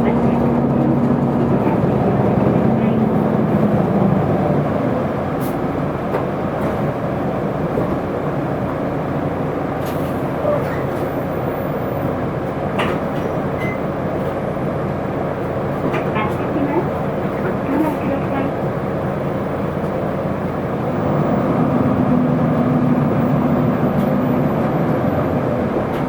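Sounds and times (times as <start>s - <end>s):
bus diesel engine rumble: 0.0s - 26.0s
road noise: 0.0s - 26.0s.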